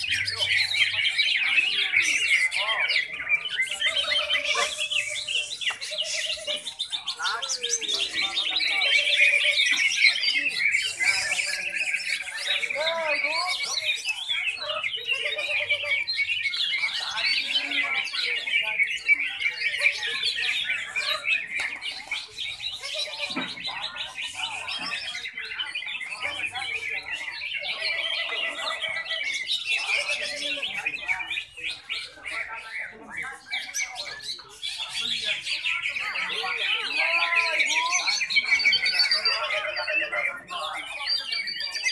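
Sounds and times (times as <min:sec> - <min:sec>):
birds chirping and whistling: 0:00.0 - 0:41.9.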